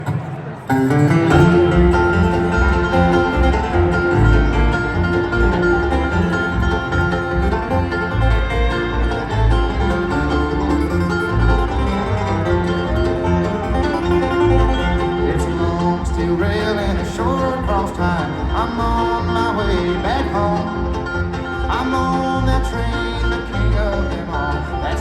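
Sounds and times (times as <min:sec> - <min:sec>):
bluegrass band playing: 0:00.0 - 0:25.0.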